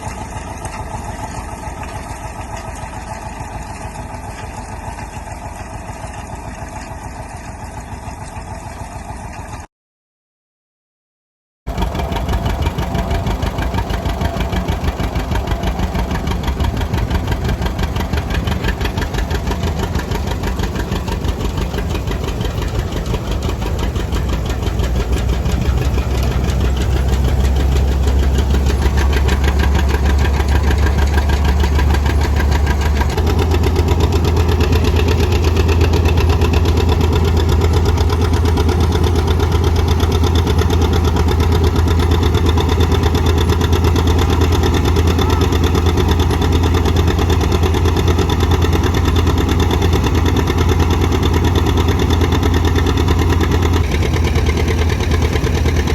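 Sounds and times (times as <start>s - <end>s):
tractor engine running: 0.0s - 9.7s, 11.7s - 55.9s.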